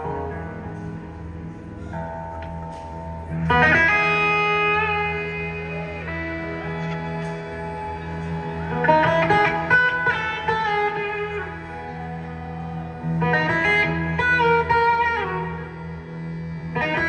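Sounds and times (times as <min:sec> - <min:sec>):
electric guitars picking melody: 0:00.0 - 0:17.0
steady low drone: 0:00.0 - 0:17.0.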